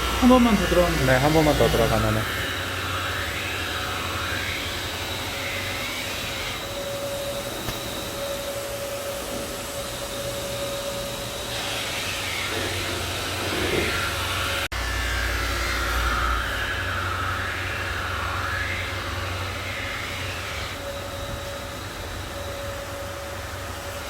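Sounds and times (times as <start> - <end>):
stone-grinding machine running: 0.0 - 22.8.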